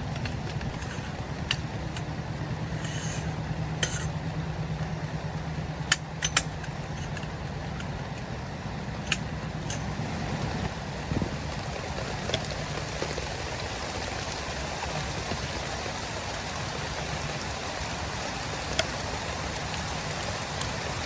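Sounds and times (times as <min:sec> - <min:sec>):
rain falling: 0:00.0 - 0:21.0
steady low rumble: 0:00.0 - 0:21.0.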